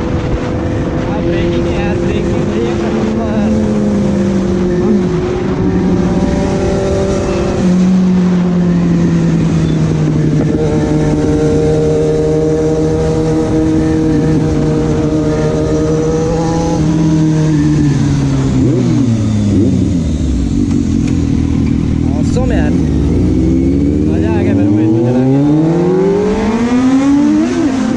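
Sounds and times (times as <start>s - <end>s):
motorcycle engine: 0.0s - 27.9s.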